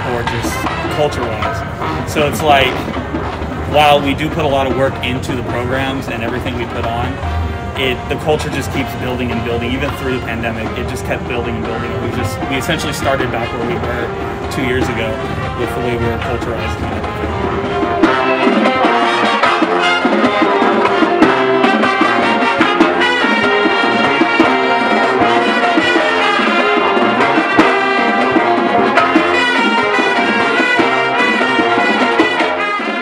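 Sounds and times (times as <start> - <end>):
brass playing a tune: 0.0 - 33.0
drums keeping a steady beat: 0.0 - 33.0.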